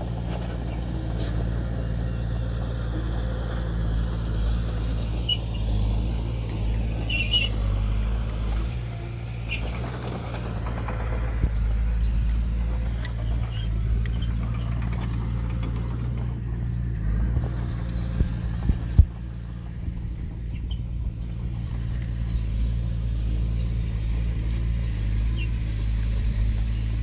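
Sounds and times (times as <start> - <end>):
diesel engine running: 0.0 - 27.0
metallic squeaks and clicks: 4.5 - 26.9.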